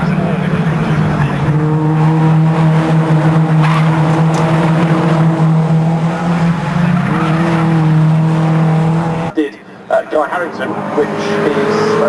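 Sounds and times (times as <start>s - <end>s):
racing engines running high: 0.0s - 9.4s, 10.2s - 12.0s.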